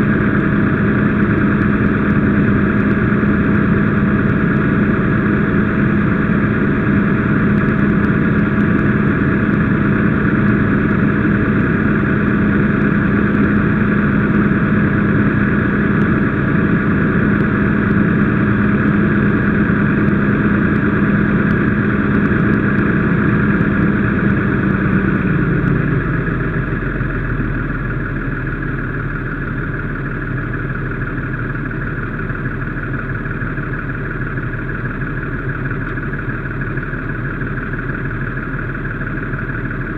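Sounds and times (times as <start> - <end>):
fire engine running: 0.0 - 39.9.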